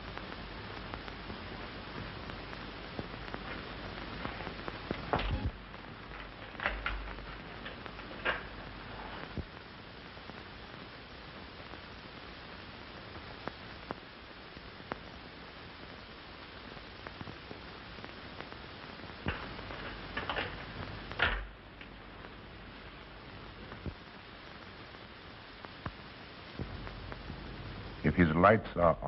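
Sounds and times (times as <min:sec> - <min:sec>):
film soundtrack hiss: 0:00.0 - 0:29.0.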